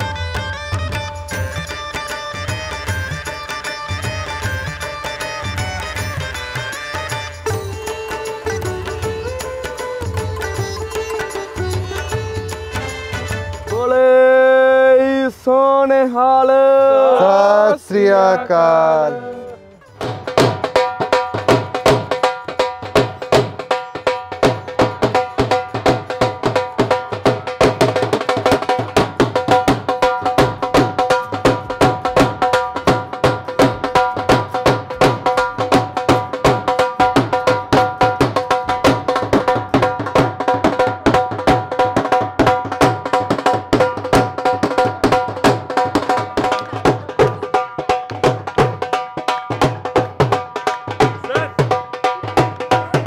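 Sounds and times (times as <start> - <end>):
drum beaten in fast rhythm: 0.0 - 15.0, 19.9 - 53.0.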